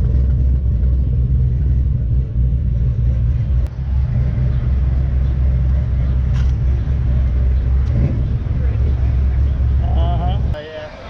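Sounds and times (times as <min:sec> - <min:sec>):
loud low rumble: 0:00.0 - 0:10.6.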